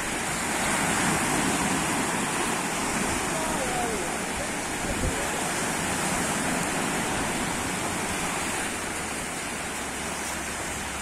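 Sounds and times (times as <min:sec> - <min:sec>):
sea waves rushing: 0:00.0 - 0:11.0.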